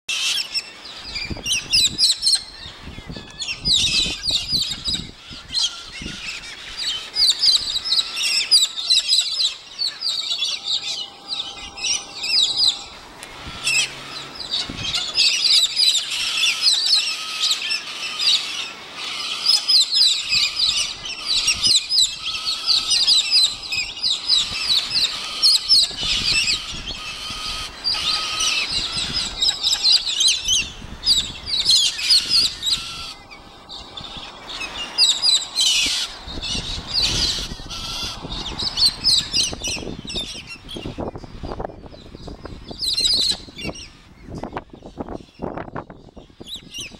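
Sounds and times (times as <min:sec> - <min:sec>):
flock of cockatoos calling: 0:00.1 - 0:46.9.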